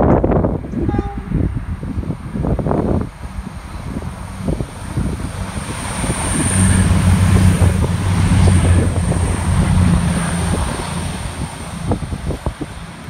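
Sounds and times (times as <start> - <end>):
diesel train passing: 0.0 - 13.0
wind buffeting microphone: 0.0 - 13.0.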